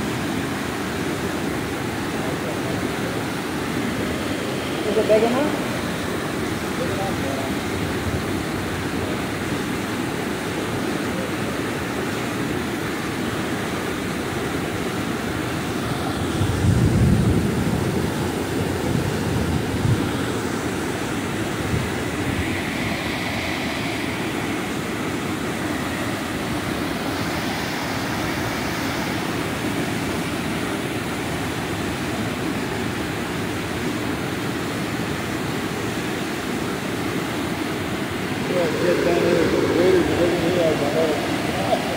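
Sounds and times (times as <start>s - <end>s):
water rushing over a dam: 0.0s - 41.9s.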